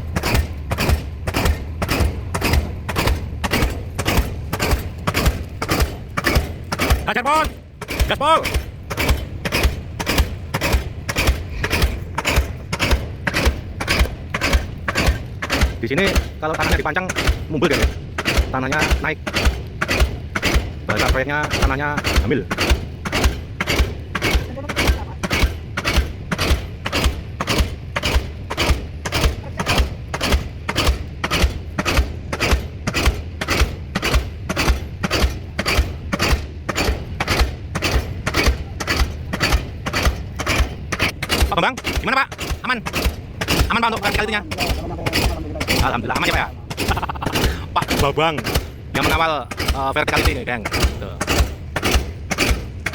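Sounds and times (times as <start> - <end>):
pile hammer blows: 0.0 - 52.9.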